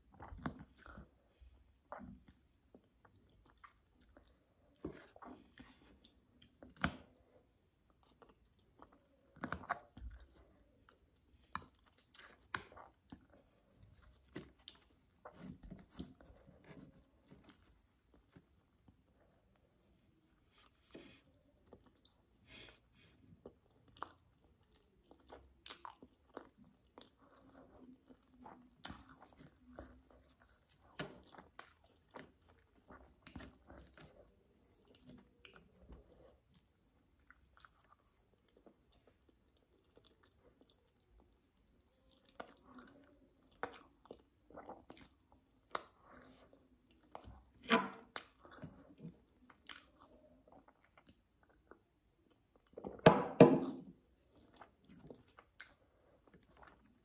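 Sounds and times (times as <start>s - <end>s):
wet chewing: 0.0s - 53.0s, 53.8s - 57.0s.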